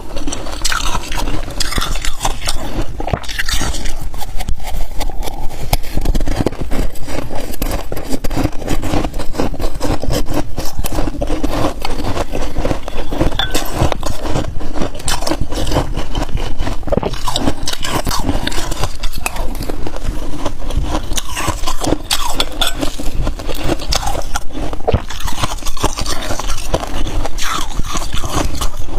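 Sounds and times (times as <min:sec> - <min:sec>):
teeth crunching frost: 0:00.0 - 0:28.9.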